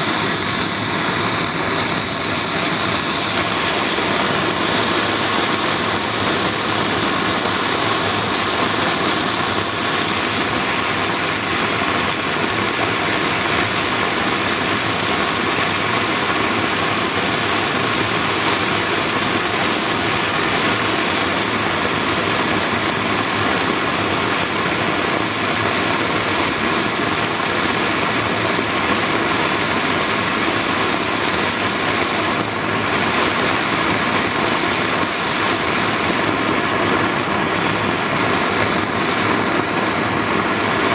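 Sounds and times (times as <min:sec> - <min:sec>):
gas torch flame rushing: 0:00.0 - 0:40.9.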